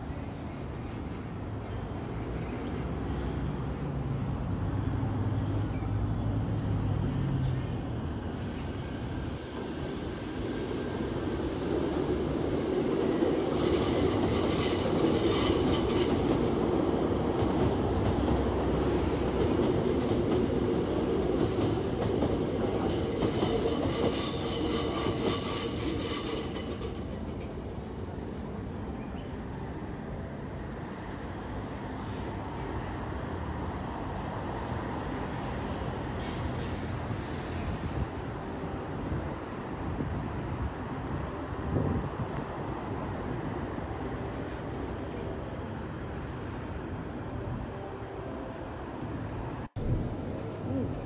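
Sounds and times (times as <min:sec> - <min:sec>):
subway train running past: 0:00.0 - 0:51.0.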